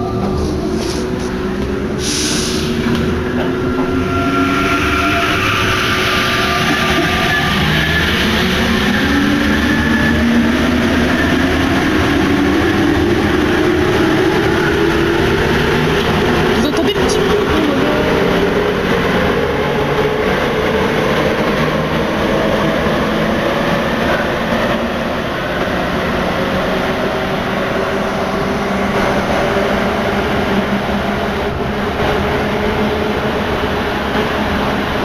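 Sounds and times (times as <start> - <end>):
metro train rumbling: 0.0 - 35.0.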